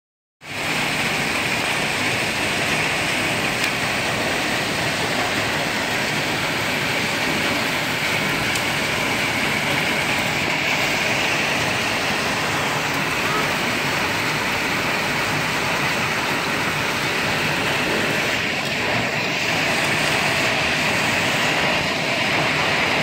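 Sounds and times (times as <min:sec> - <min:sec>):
heavy rain and hail: 0:00.5 - 0:23.0.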